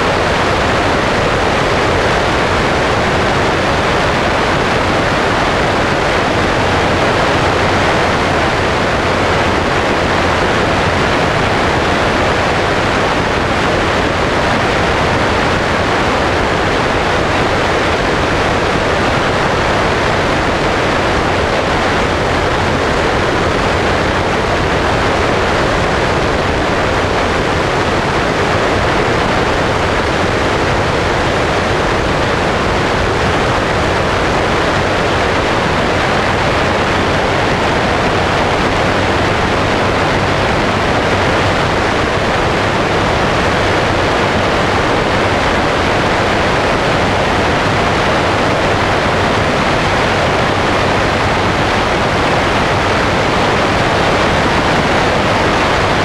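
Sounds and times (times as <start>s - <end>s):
aircraft engine and propeller hum: 0.0s - 56.0s
airflow rushing over microphone: 0.0s - 56.0s.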